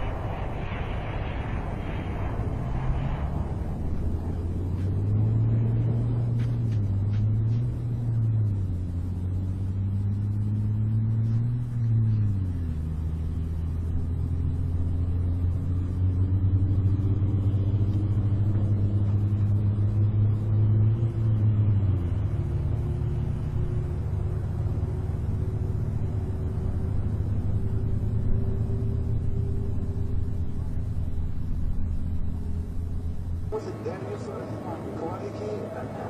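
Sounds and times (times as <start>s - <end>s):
low engine drone: 0.0s - 36.0s.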